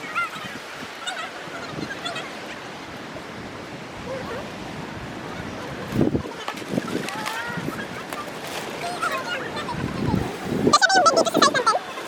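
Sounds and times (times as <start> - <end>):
surf: 0.0 - 12.0
wind by the sea: 0.0 - 12.0.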